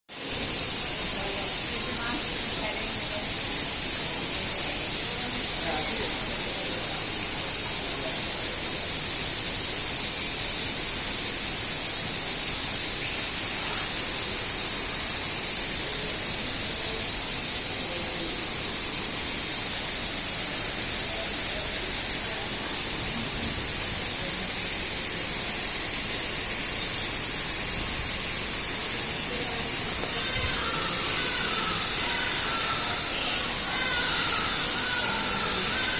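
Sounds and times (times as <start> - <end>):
faint voices: 0.1 - 35.9
steady background hiss: 0.1 - 35.9.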